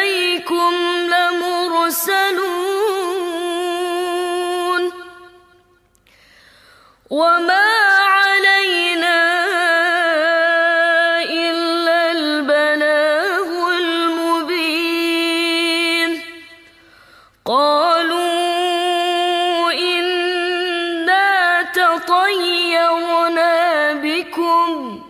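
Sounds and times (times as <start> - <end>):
woman chanting melodically: 0.0 - 5.5, 7.1 - 16.6, 17.5 - 25.0.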